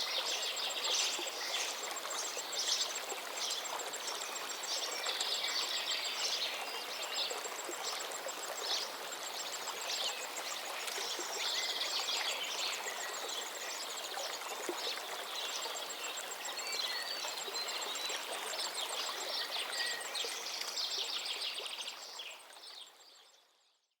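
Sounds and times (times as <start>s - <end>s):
stream babbling: 0.0s - 23.0s
songbirds singing: 0.0s - 23.8s.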